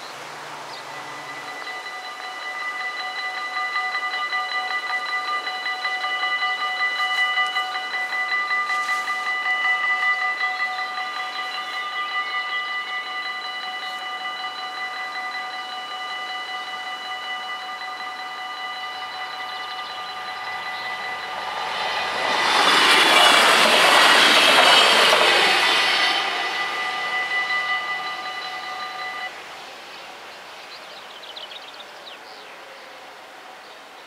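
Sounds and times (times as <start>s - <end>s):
train passing: 0.0s - 32.0s
level crossing bells ringing: 0.6s - 29.4s.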